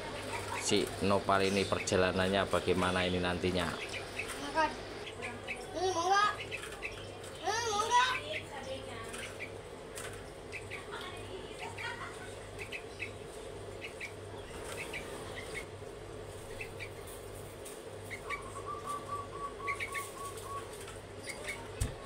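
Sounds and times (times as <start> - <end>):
young bird chirping: 0.0 - 2.2, 3.4 - 9.6, 10.2 - 10.9, 11.6 - 15.7, 16.4 - 17.2, 18.0 - 22.0
steady hum: 0.0 - 22.0.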